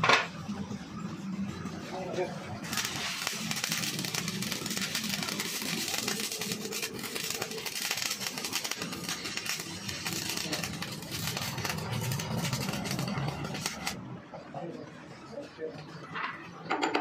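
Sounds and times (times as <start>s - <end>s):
arc welding crackling and sizzling: 0.0s - 16.2s.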